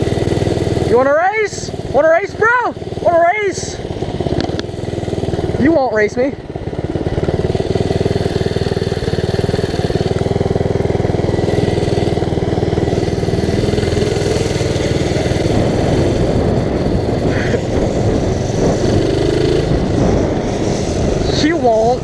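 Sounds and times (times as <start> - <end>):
small motorbike engine running: 0.0 - 22.0.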